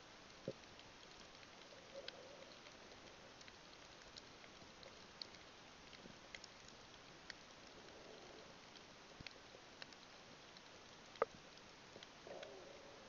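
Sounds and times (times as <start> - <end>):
faint underwater hiss: 0.0 - 13.0
faint sharp clicks: 0.3 - 12.6.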